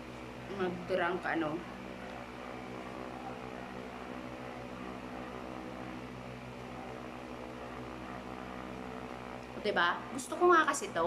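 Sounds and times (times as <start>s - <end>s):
appliance humming and hissing: 0.0s - 11.0s.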